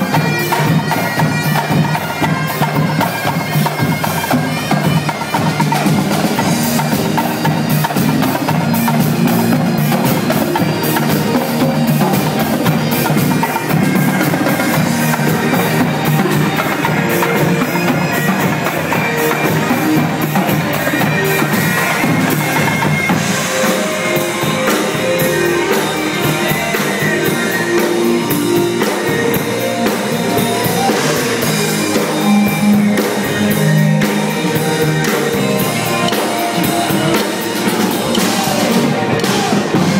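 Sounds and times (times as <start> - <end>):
tenor drums played with sticks: 0.0 - 39.9.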